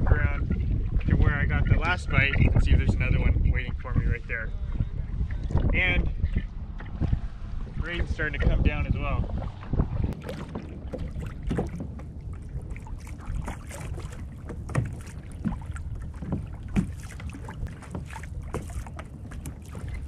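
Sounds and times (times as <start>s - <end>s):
water lapping against hull: 0.0s - 20.0s
wind rumble on microphone: 0.0s - 20.0s.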